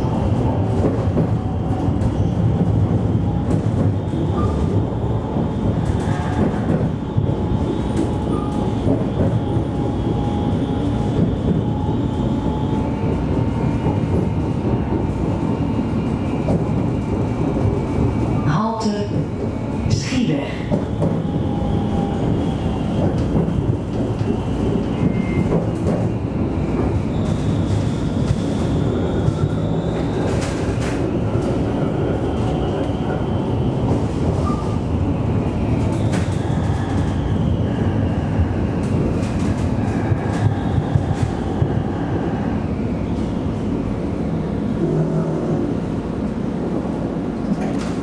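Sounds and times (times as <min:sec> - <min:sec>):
tram wheels rumbling on rail: 0:00.0 - 0:48.0.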